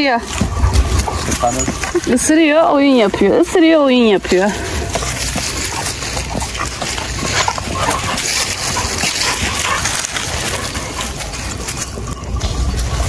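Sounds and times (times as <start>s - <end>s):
dogs play-fighting: 0.0s - 13.0s
low rumble: 0.0s - 13.0s.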